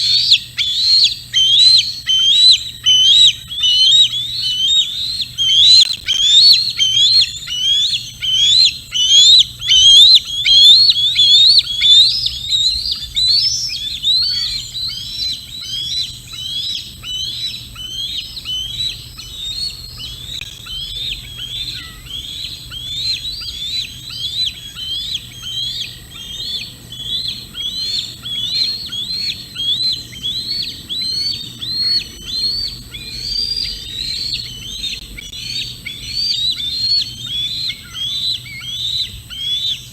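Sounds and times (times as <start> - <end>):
eagle squealing calls: 0.0 - 39.9.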